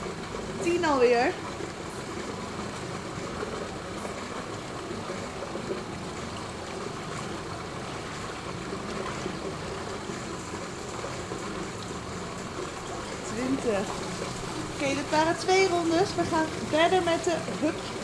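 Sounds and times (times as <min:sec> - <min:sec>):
pool water rushing and trickling: 0:00.0 - 0:18.0.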